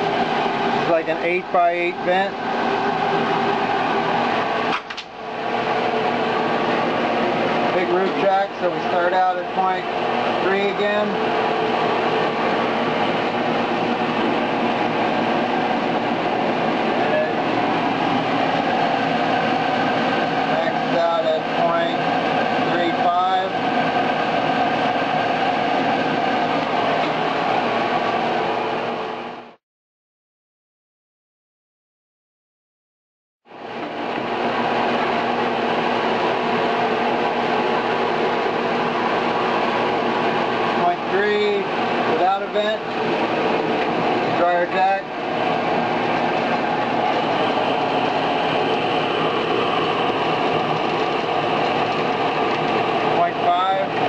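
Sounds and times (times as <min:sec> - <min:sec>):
faint blower motor hum: 0:00.0 - 0:29.6, 0:33.5 - 0:54.0.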